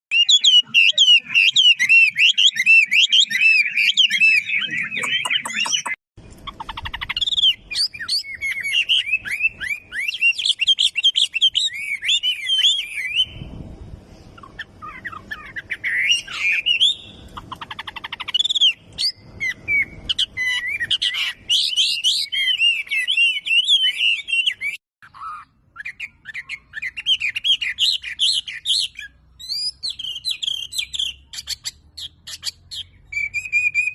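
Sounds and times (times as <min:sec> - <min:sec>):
songbird warbling: 0:00.1 - 0:13.4, 0:14.2 - 0:33.9.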